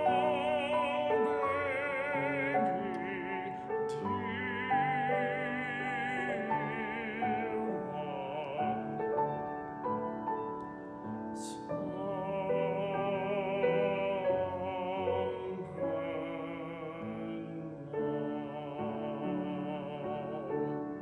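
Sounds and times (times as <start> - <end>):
person singing with vibrato: 0.0 - 9.7, 11.3 - 21.0
piano accompaniment: 0.0 - 21.0.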